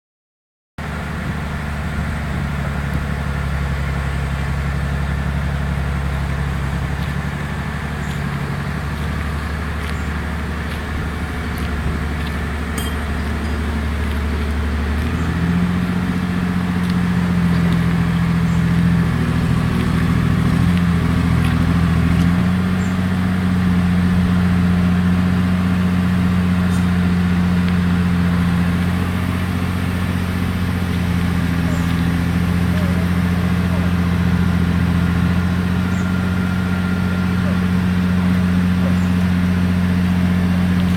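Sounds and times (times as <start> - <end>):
engine running: 0.8 - 40.9.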